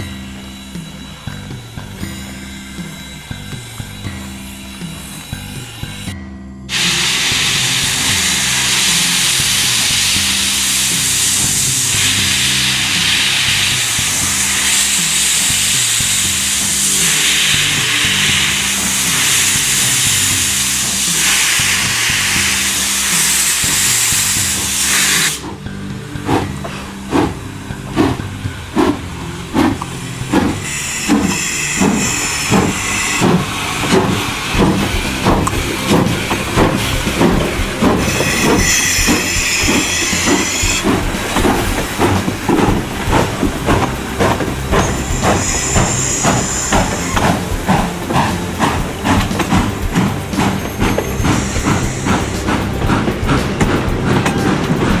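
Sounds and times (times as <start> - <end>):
steam hissing: 0.0 - 6.1, 6.7 - 55.0
steam locomotive exhaust chuffs: 0.0 - 55.0.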